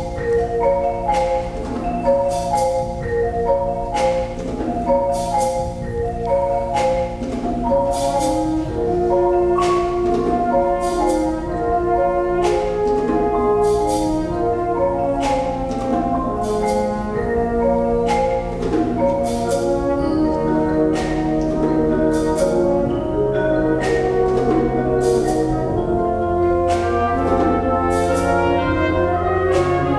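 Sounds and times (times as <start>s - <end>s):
mallet percussion melody: 0.0s - 29.9s
wind band playing: 0.0s - 29.9s.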